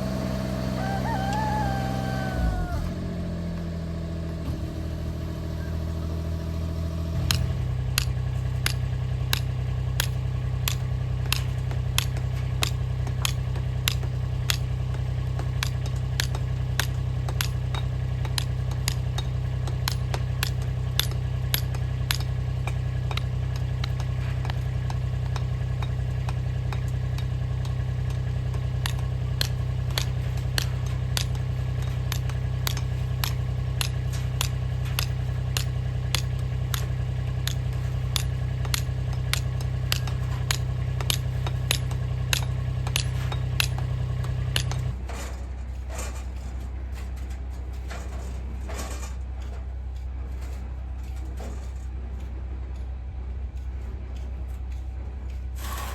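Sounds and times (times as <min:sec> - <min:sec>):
machine motor hum: 0:00.0 - 0:45.0.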